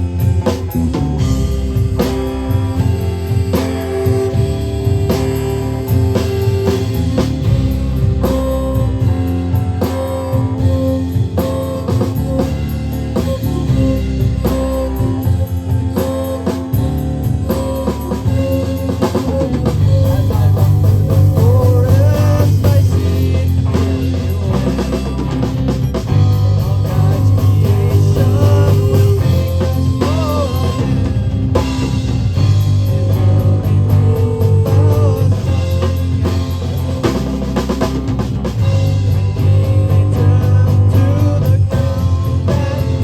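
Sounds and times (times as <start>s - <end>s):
rock band playing: 0.0s - 43.0s.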